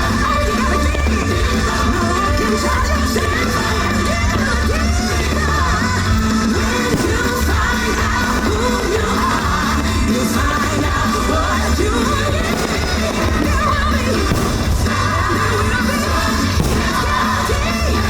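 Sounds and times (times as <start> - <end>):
music with singing and deep bass: 0.0 - 18.0.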